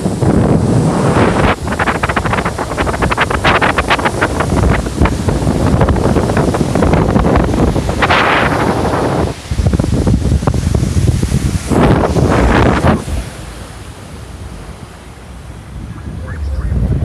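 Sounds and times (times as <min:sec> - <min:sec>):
waves splashing: 0:00.0 - 0:17.0
wind buffeting microphone: 0:00.0 - 0:17.0.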